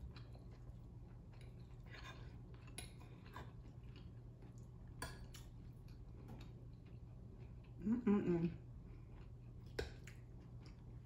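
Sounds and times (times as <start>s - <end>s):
person chewing food: 0.0s - 7.9s, 8.6s - 11.0s.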